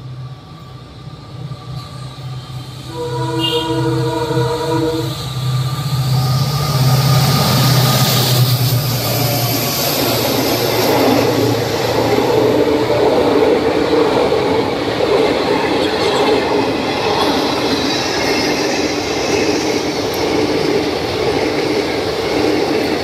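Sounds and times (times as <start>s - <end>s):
locomotive engine drone: 0.0s - 23.0s
train wheel and rail noise: 0.0s - 23.0s.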